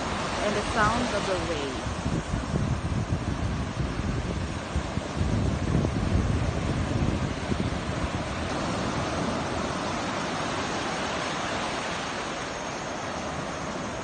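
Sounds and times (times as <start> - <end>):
sea waves breaking on beach: 0.0 - 14.0
wind buffeting microphone: 0.0 - 14.0.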